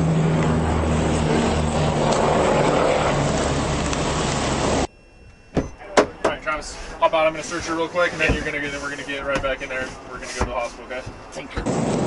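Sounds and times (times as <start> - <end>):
low humming tones: 0.0 - 11.4
vehicle engine drone: 0.0 - 12.0.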